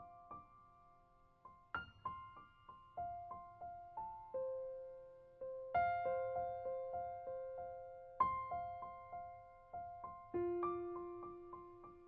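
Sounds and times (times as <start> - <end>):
gentle keyboard melody: 0.0 - 12.0.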